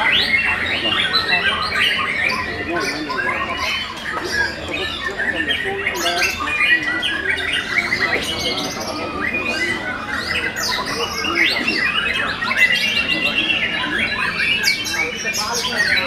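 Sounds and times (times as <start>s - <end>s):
many birds singing: 0.0s - 16.0s.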